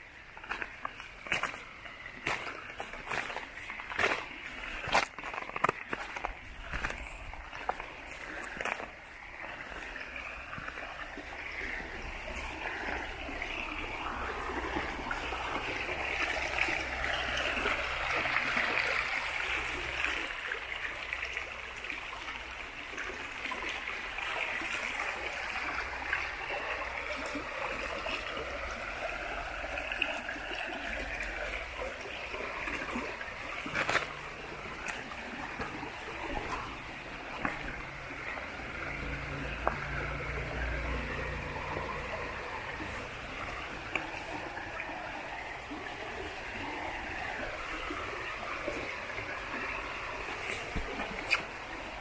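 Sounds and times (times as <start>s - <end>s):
water rushing over stones: 0.0s - 52.0s.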